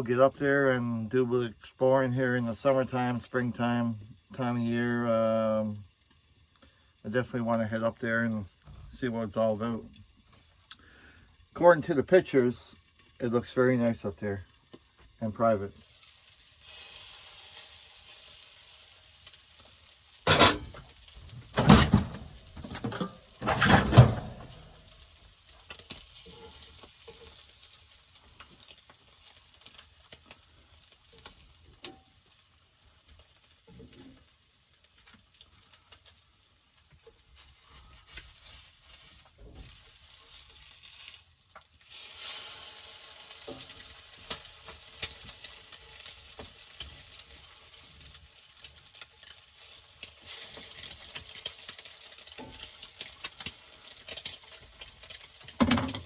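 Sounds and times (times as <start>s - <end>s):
crackles and pops of frying: 0.0s - 56.0s
food sizzling in a pan: 0.6s - 56.0s.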